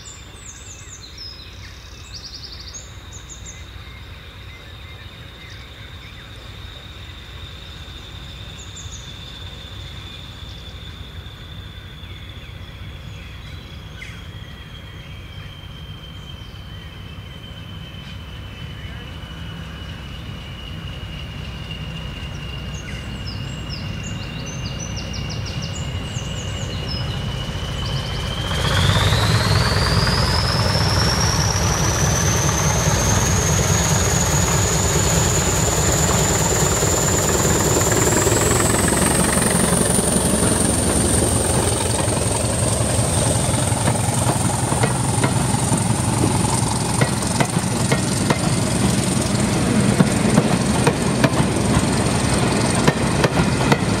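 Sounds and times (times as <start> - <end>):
diesel locomotive engine rumbling: 0.0 - 54.0
high turbocharger whine: 6.1 - 54.0
birds chirping: 8.2 - 54.0.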